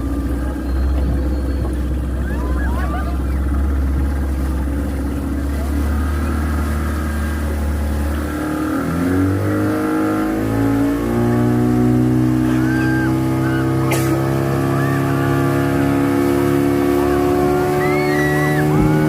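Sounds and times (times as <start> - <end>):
motorboat engine speeding up: 0.0 - 19.0.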